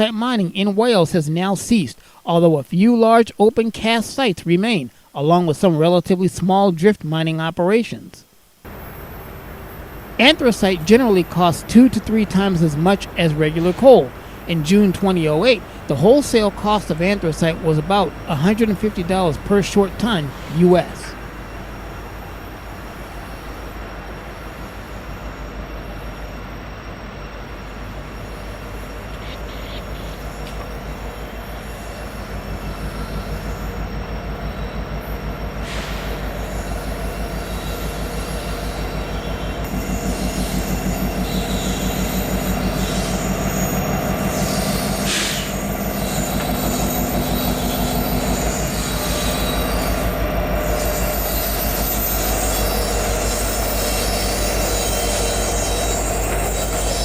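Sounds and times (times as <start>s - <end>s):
train rolling on rails: 0.0s - 6.9s, 8.0s - 57.0s
train wheel squeals: 8.8s - 57.0s.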